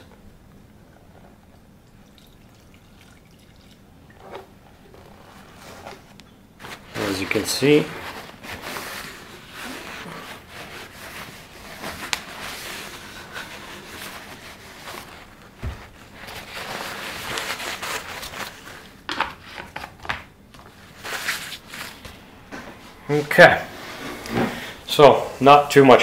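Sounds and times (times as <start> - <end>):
paper towel crinkling: 4.3 - 19.9, 20.5 - 25.9.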